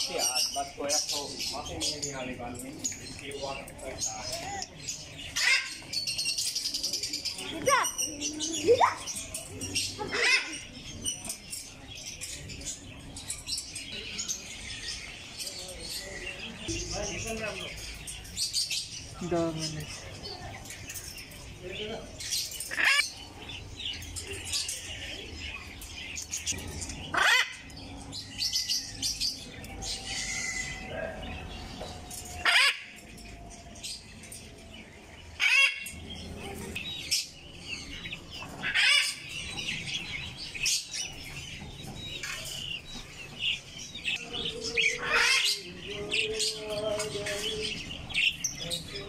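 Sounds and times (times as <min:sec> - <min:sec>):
sharp loud bird calls: 0:00.0 - 0:19.2, 0:19.8 - 0:34.2, 0:35.2 - 0:36.3, 0:37.0 - 0:45.8
caged birds chirping: 0:00.0 - 0:49.0.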